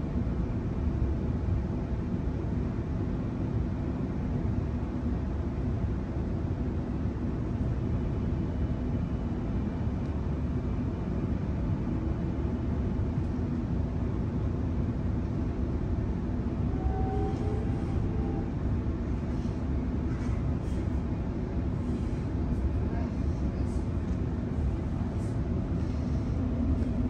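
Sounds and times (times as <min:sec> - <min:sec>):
train rumble from inside carriage: 0:00.0 - 0:27.0.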